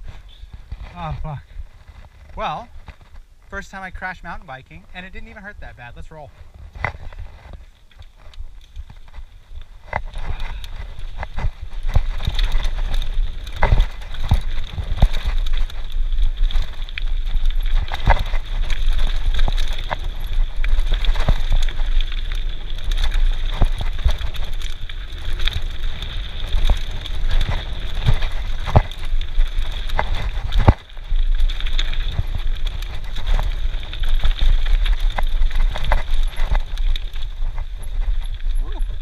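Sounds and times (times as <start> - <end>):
bike rattling over bumps: 0.0 - 39.0
bike tyre noise: 0.0 - 39.0.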